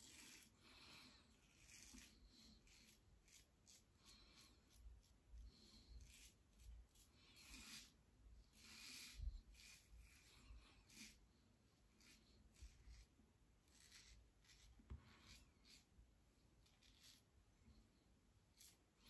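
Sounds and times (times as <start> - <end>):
razor scraping stubble: 0.0 - 11.2, 11.9 - 15.9, 16.6 - 17.3.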